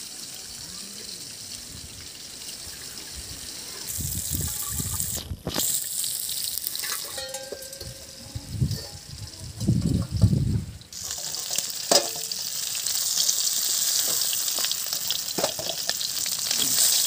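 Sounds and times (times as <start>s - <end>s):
fish sizzling in a wok: 0.0s - 17.0s
water splashing in a metal bucket: 1.3s - 17.0s.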